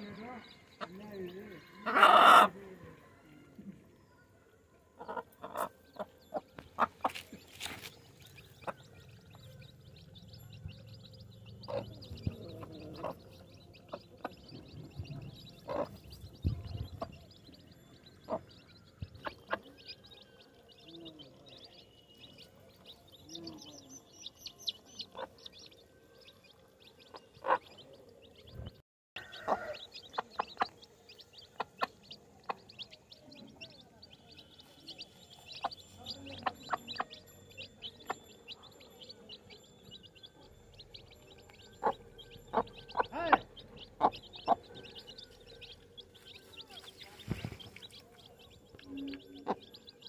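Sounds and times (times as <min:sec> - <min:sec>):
baby chicks peeping: 0:00.0 - 0:03.7, 0:04.6 - 0:50.0.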